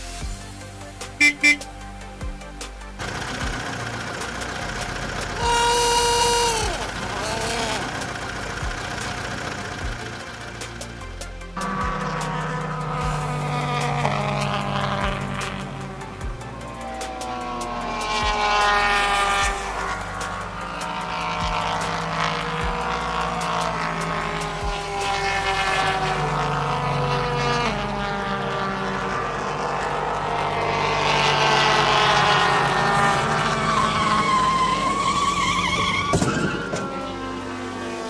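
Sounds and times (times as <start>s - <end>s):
race car engine revving: 0.0s - 38.0s
tire squeal: 1.2s - 1.7s, 3.0s - 10.5s, 11.6s - 38.0s.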